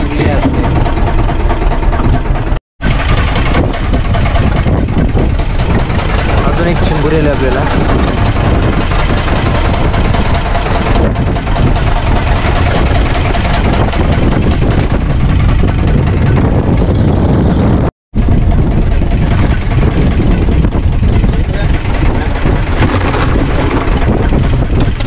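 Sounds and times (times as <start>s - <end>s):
boat engine running: 0.0s - 25.0s
strong wind buffeting microphone: 0.0s - 25.0s.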